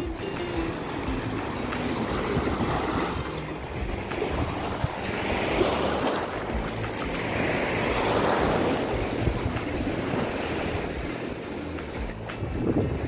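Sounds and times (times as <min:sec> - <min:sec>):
waves washing onto sand: 0:00.0 - 0:13.0
wind buffeting microphone: 0:00.0 - 0:13.0.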